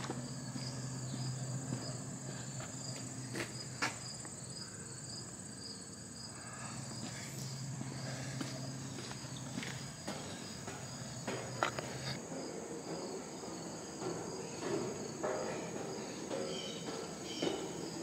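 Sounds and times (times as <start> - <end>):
footsteps on steel stairs: 0.0 - 4.5, 6.8 - 18.0
insects chirring in trees: 0.0 - 18.0.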